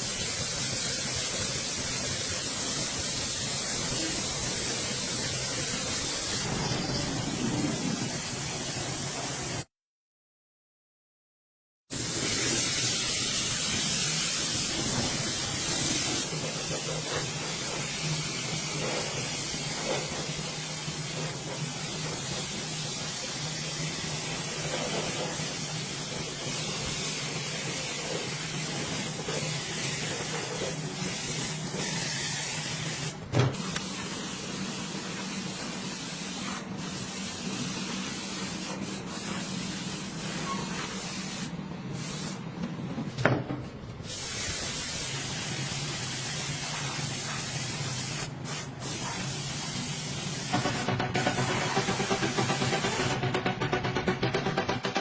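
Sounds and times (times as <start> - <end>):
pressure washer spraying water: 0.0 - 9.7, 11.9 - 42.4, 44.1 - 54.8.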